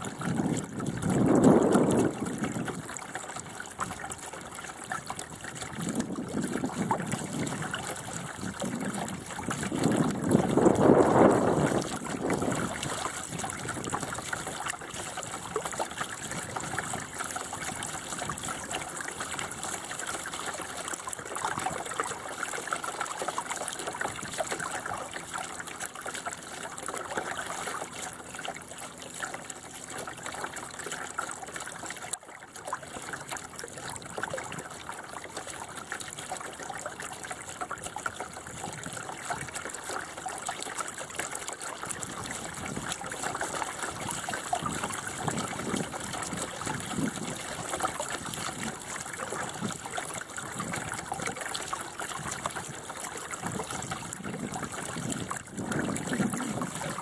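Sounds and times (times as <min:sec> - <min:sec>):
water washing along boat hull: 0:00.0 - 0:57.0.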